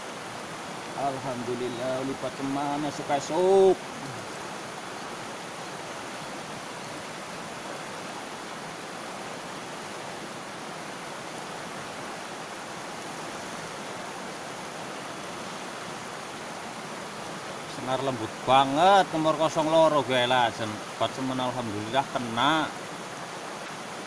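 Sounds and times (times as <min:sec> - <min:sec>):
river rushing around boulders: 0:00.0 - 0:24.0.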